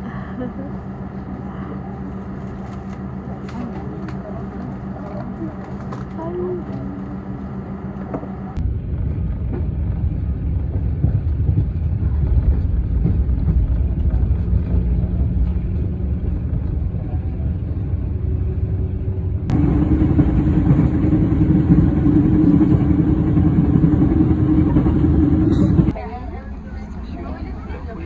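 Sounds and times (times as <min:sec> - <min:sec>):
train rumbling inside carriage: 0:00.0 - 0:26.1
droning hum: 0:00.0 - 0:28.0.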